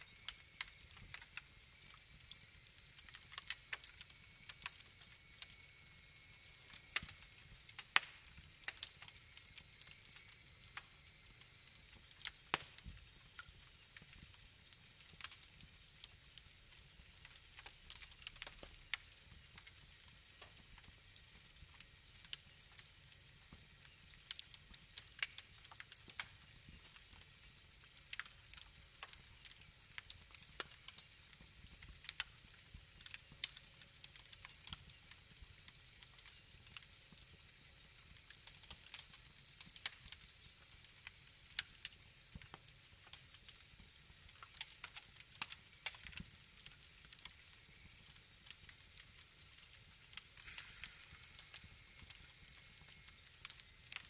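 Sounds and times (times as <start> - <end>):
faint steady hiss: 0.0 - 54.0
wood fire crackling: 0.0 - 54.0.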